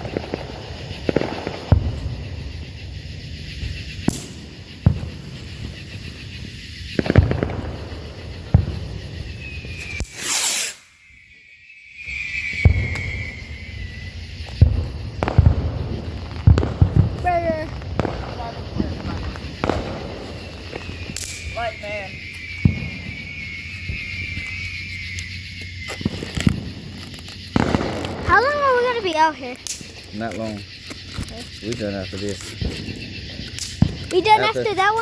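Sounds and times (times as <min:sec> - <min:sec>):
firework hissing whistle: 0:00.0 - 0:35.0
fireworks crackling pops: 0:00.0 - 0:35.0.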